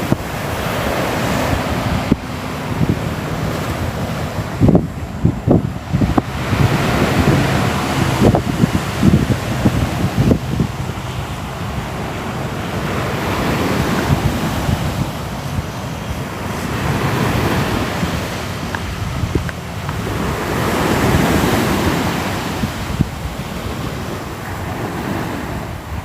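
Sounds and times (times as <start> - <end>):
ocean waves washing onto shore: 0.0 - 26.0
wind rumbling on microphone: 0.0 - 26.0.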